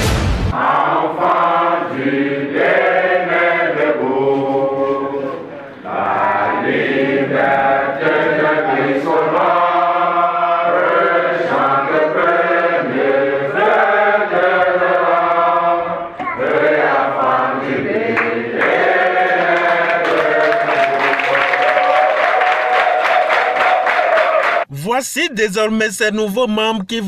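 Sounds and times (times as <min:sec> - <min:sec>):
group of people singing chant: 0:00.5 - 0:24.6.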